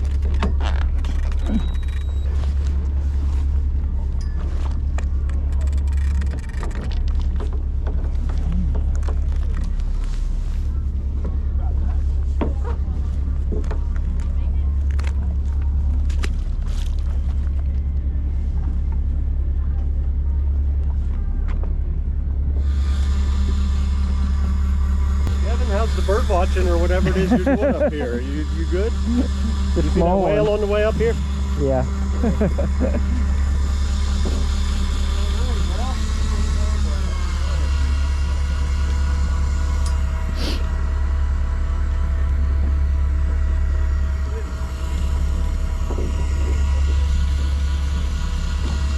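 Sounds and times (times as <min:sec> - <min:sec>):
boat engine droning: 0:00.0 - 0:48.9
steady hum tones: 0:00.0 - 0:48.9.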